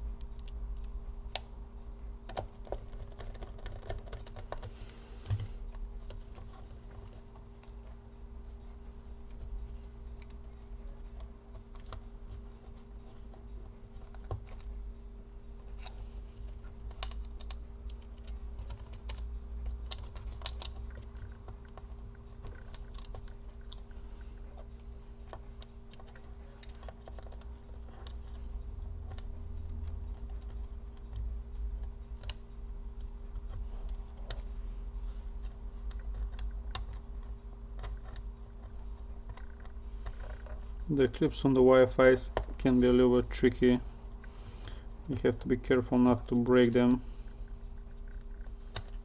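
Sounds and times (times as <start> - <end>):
low hum: 0.0 - 49.0
small parts clicking and tapping: 2.2 - 8.0, 9.2 - 34.5, 35.4 - 43.4, 44.2 - 49.0.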